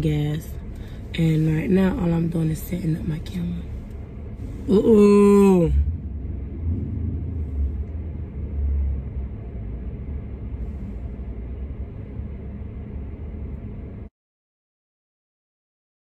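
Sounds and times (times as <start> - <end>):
car cabin rumble: 0.0 - 14.1.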